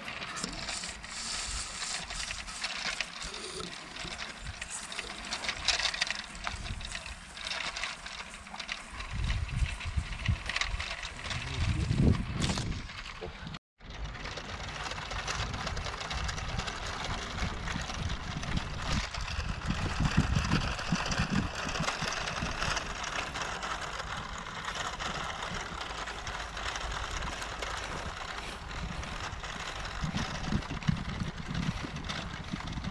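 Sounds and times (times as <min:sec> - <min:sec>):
small electric motor whirring: 0:00.0 - 0:13.4, 0:14.0 - 0:32.9.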